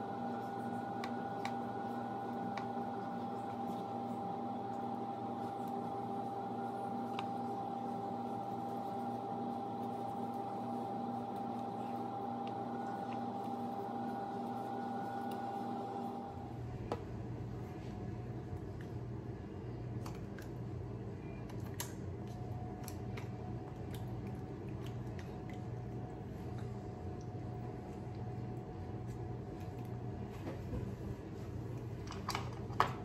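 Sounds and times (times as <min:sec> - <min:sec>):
machine hum with high whine: 0:00.0 - 0:33.0.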